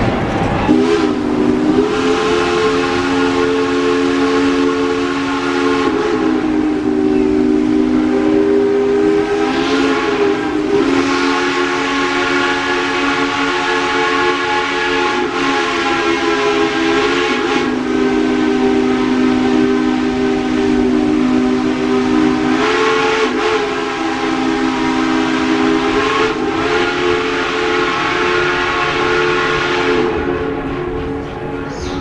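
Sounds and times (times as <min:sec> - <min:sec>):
steam hissing: 0:00.0 - 0:32.0
steam locomotive whistle: 0:00.6 - 0:32.0.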